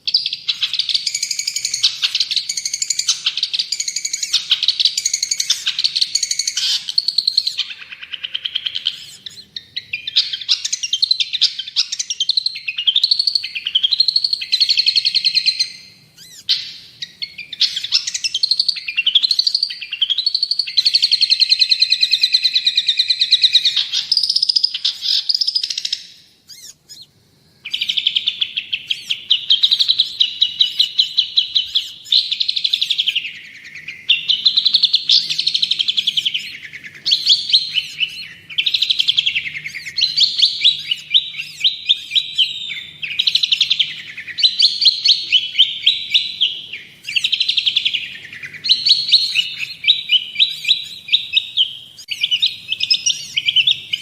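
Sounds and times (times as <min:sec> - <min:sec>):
shrike singing: 0:00.0 - 0:54.0.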